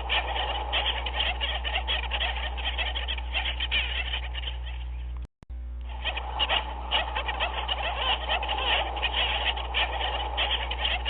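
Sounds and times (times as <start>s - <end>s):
penguin colony calling: 0.0s - 5.2s, 5.9s - 11.0s
steady low hum: 0.0s - 11.0s.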